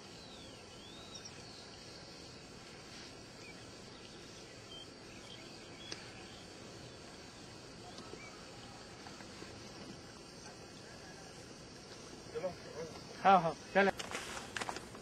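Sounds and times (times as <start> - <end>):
birds chirping: 0.0 - 15.0
high insect trill: 0.0 - 15.0
water running into field: 0.0 - 15.0.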